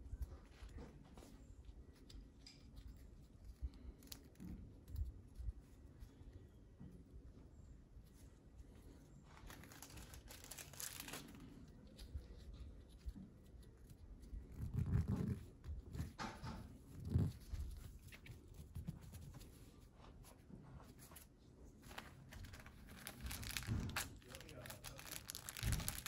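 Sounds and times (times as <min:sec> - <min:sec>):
rustling and crinkling: 0:00.0 - 0:26.0.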